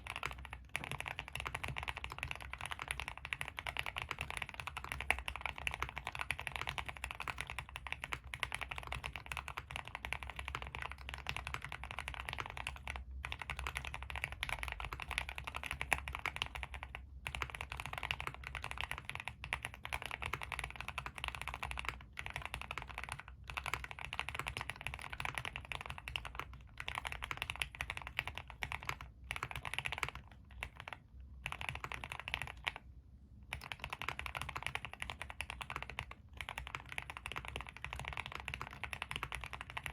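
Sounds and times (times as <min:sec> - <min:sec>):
typing on mechanical keyboard: 0:00.0 - 0:32.9, 0:33.5 - 0:39.9.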